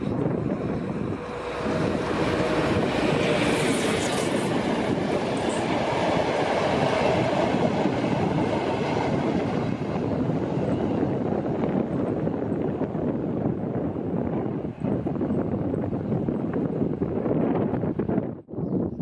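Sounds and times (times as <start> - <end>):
train wheels rushing on rails: 0.0 - 17.3.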